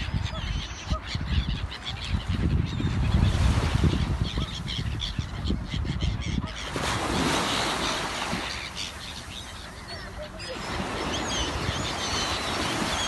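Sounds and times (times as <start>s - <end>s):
bird calls: 0.0s - 13.0s
wind rumbling on microphone: 0.0s - 13.0s.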